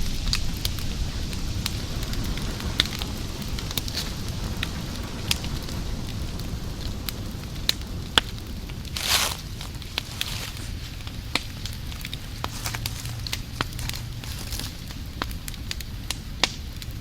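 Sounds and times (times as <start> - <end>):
fire crackling: 0.0 - 17.0
low steady rumble: 0.0 - 17.0.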